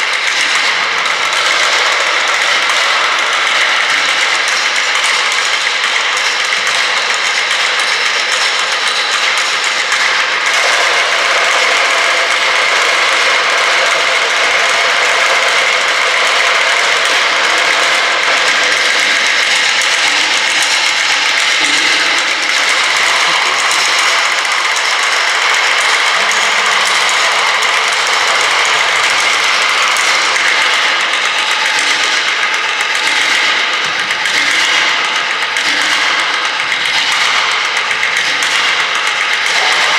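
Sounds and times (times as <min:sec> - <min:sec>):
percussion on objects: 0:00.0 - 0:39.9.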